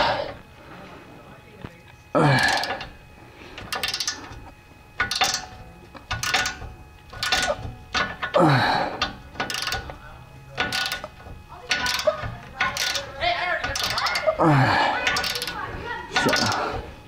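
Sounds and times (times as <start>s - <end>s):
ratchet clicking: 2.4s - 3.0s, 3.6s - 17.0s.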